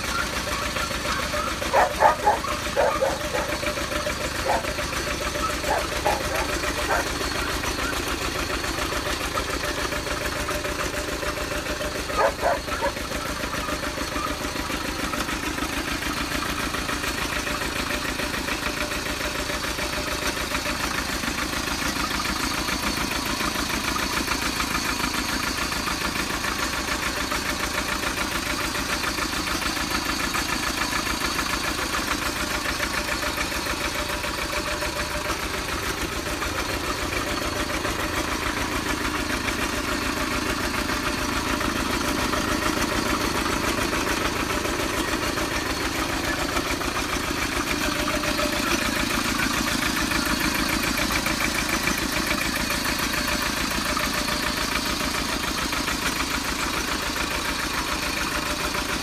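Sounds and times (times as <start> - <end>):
small tractor engine running: 0.0 - 59.0.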